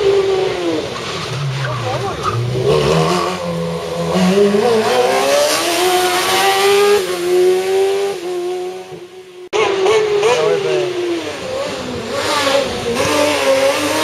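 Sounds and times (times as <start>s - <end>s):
race car engine revving: 0.0s - 14.0s.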